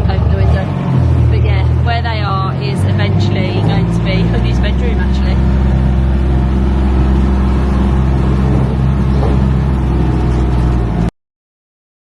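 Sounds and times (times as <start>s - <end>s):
car engine humming: 0.0s - 11.1s.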